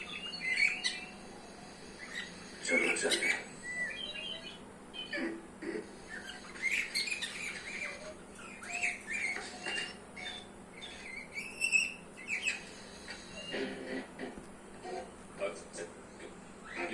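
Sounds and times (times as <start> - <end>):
budgerigars chirping and warbling: 0.0 - 16.9.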